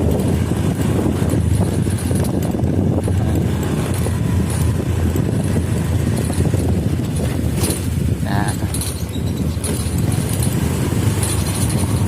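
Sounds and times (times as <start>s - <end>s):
scooter engine rumble: 0.0s - 12.0s.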